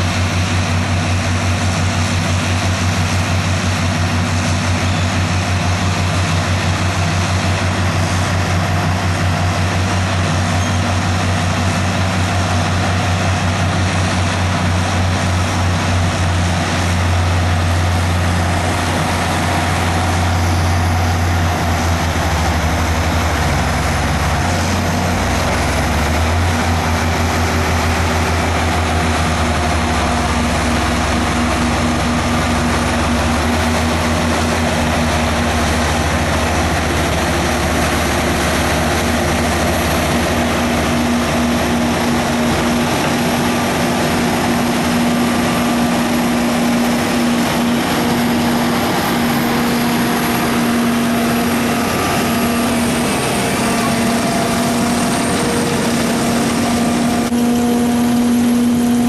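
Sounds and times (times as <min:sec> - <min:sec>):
harvester machine running: 0:00.0 - 0:59.0
tractor engines droning: 0:00.0 - 0:59.0.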